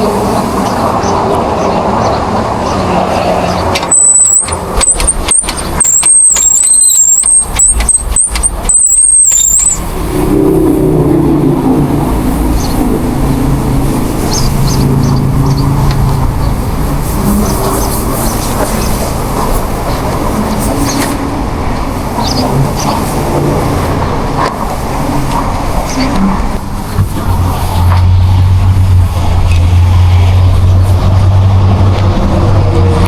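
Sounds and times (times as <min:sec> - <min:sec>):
car interior road noise: 0:00.0 - 0:33.0
engine hum: 0:00.0 - 0:33.0
wavering high whine: 0:00.0 - 0:33.0.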